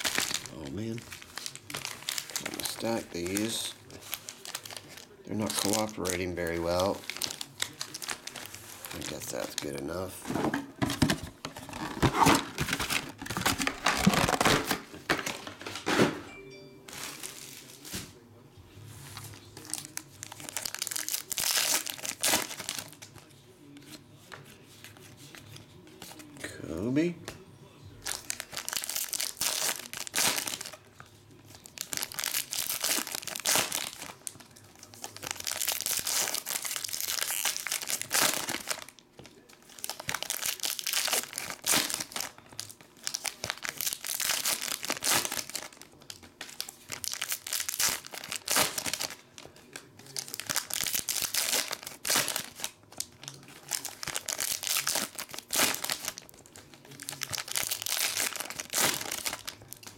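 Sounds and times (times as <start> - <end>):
foil wrappers crinkling and tearing: 0.0 - 15.9, 17.0 - 18.2, 19.0 - 27.0, 28.0 - 59.9.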